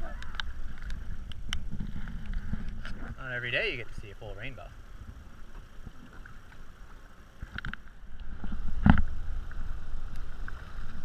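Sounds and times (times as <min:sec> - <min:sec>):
water sloshing along hull: 0:00.0 - 0:11.0.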